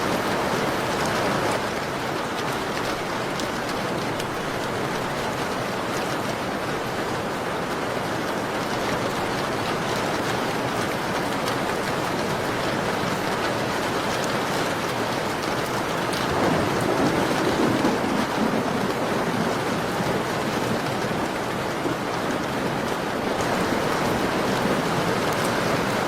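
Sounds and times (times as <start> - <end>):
rain on a window: 0.0 - 26.0.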